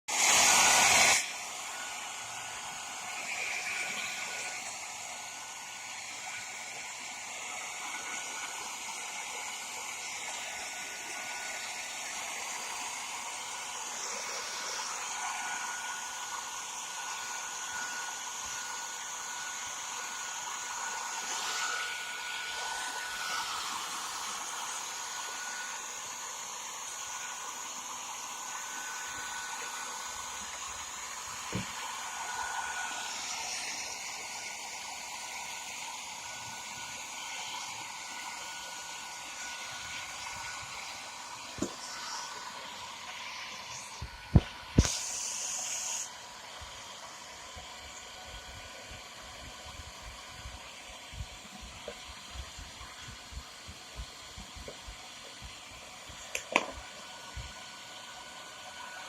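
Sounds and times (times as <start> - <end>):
hairdryer blowing: 0.0 - 59.0.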